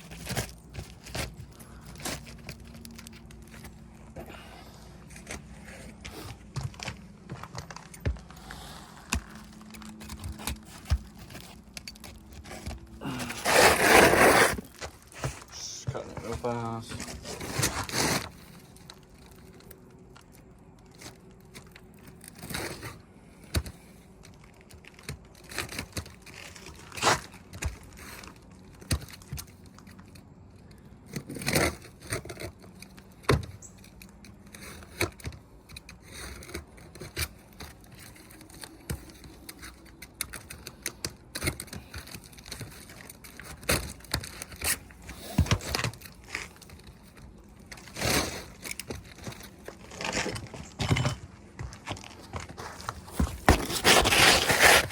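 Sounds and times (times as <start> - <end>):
roof shingle scraping and tearing: 0.0 - 54.9.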